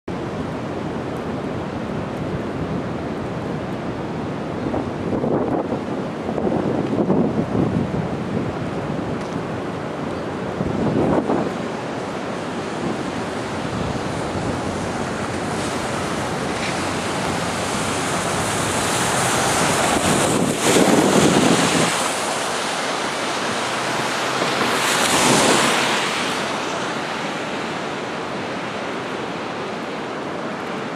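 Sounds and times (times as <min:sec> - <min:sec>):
wind buffeting microphone: 0:00.2 - 0:30.9.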